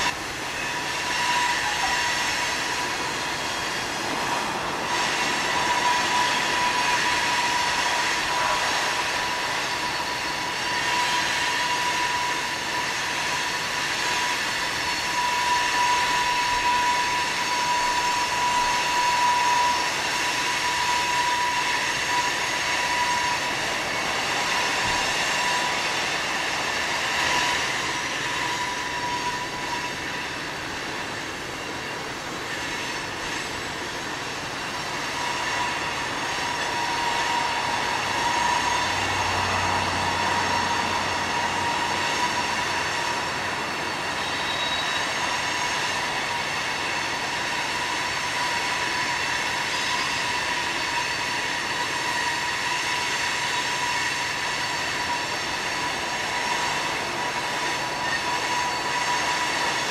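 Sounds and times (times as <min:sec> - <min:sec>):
train running noise: 0:00.0 - 0:59.9
wheel flanges squealing on rails: 0:00.0 - 0:59.9.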